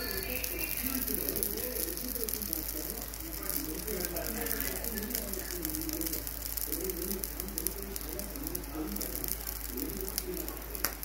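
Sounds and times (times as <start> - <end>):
hot oil crackling in a frying pan: 0.0 - 11.0.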